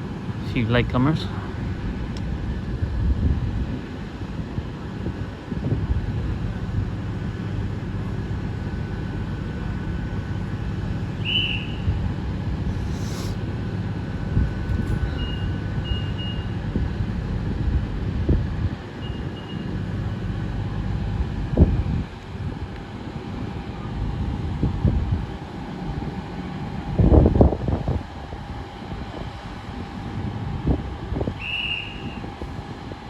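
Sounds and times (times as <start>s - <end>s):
train diesel engines running: 0.0s - 33.0s.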